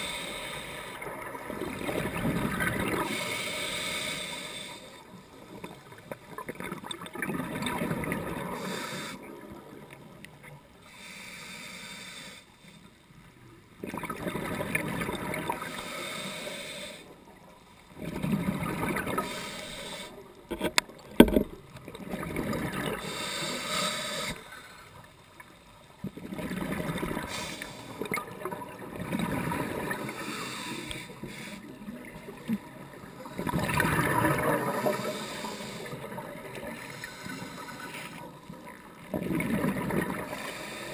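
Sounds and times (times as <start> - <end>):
underwater exhaled bubbles gurgling: 0.0 - 10.6, 13.4 - 40.9.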